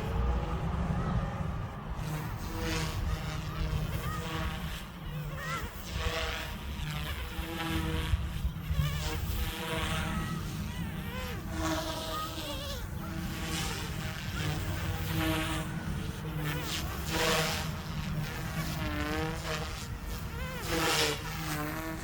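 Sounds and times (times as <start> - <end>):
rc helicopter buzzing whine: 0.0 - 22.0.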